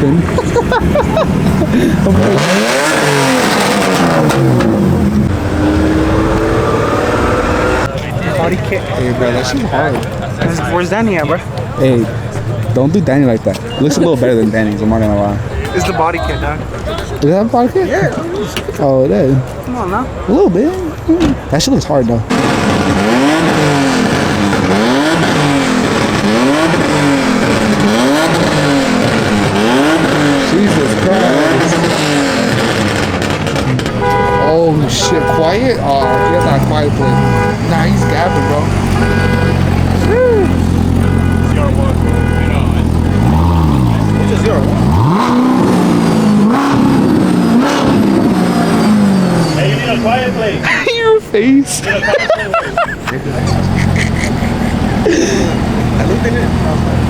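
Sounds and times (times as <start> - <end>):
car engine revving: 0.0 - 17.8, 21.3 - 50.7, 53.0 - 57.0.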